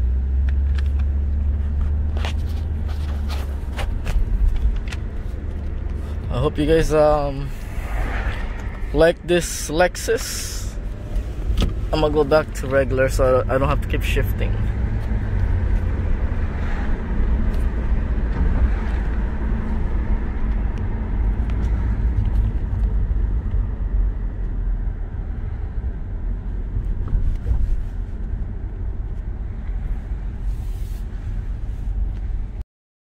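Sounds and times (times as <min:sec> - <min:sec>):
car engine and road noise rumble: 0:00.0 - 0:32.6.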